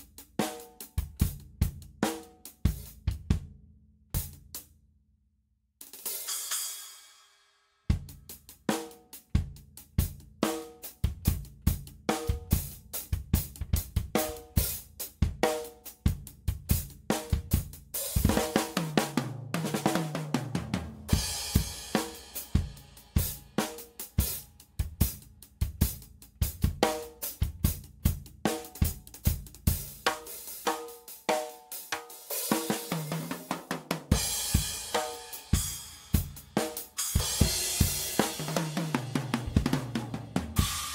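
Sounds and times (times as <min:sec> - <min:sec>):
drum kit groove: 0:00.0 - 0:04.7, 0:05.8 - 0:07.3, 0:07.9 - 0:40.9.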